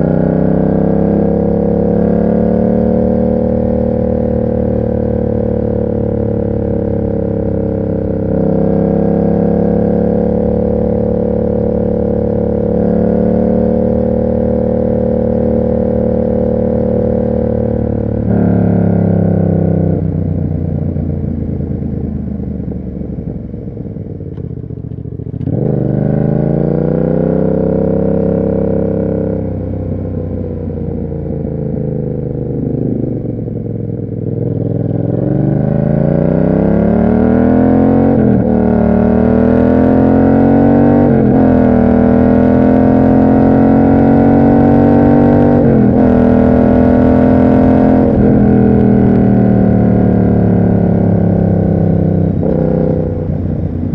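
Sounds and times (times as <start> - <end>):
motorcycle engine: 0.0 - 53.9.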